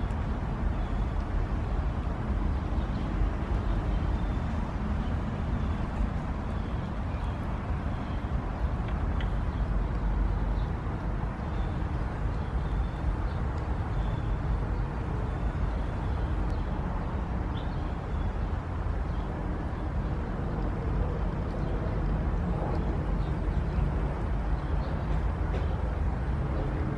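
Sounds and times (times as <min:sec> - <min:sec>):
low rumbling background noise: 0:00.0 - 0:26.9.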